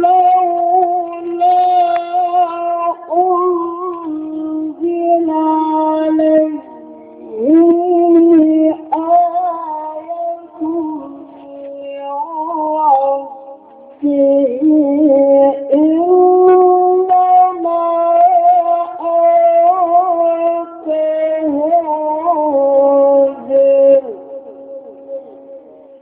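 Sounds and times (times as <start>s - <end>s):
man chanting recitation: 0.0s - 26.0s.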